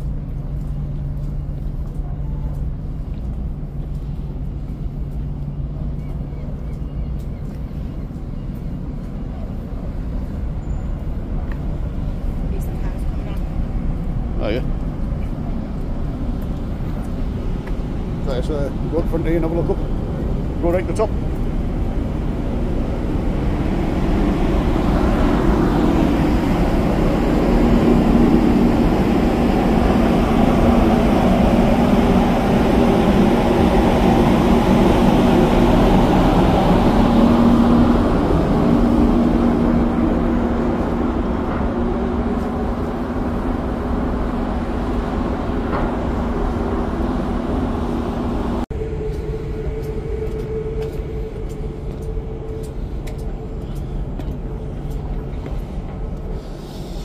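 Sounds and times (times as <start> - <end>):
ferry machinery hum: 0.0 - 57.0
wind rumbling on microphone: 0.0 - 57.0.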